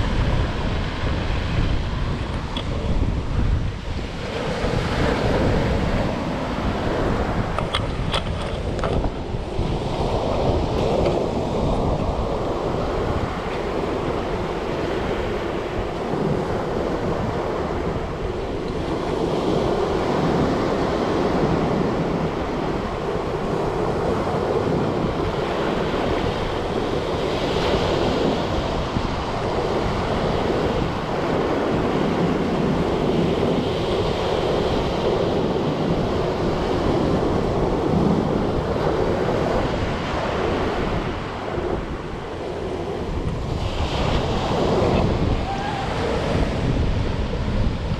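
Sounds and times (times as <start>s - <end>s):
sea waves washing on shore: 0.0s - 47.9s
wind buffeting microphone: 0.0s - 47.9s.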